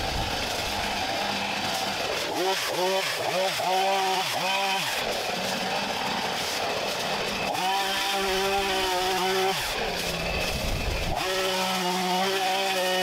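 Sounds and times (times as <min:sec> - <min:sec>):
chainsaw cutting bamboo: 0:00.0 - 0:13.0.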